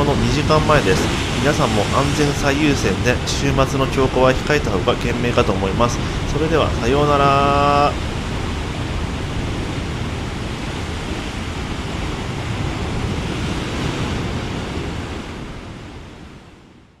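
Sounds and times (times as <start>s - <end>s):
surf breaking on rocks: 0.0s - 15.9s
wind on microphone: 0.0s - 16.8s.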